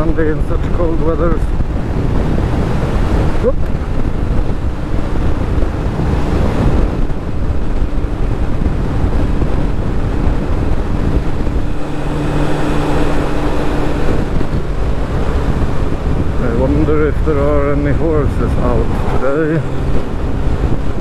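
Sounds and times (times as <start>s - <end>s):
motorcycle engine hum: 0.0s - 21.0s
wind rushing over microphone: 0.0s - 21.0s.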